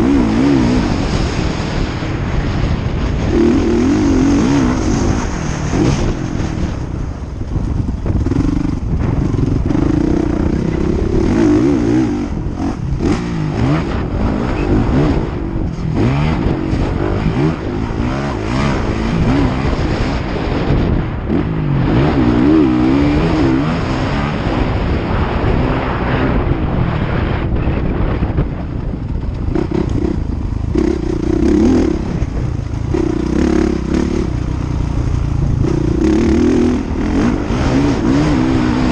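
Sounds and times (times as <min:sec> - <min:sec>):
motocross bike engines revving: 0:00.0 - 0:27.4, 0:28.9 - 0:38.9.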